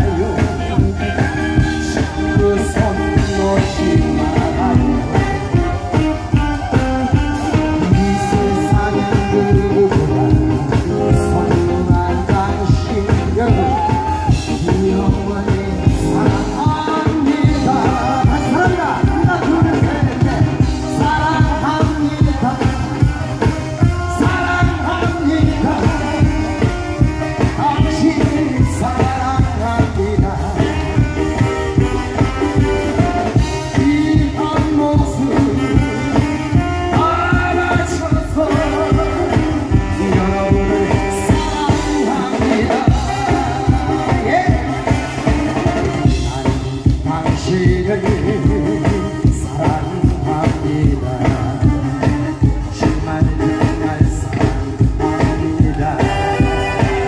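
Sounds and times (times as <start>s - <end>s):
man singing into a microphone: 0.0s - 57.0s
music with a steady beat: 0.0s - 57.0s.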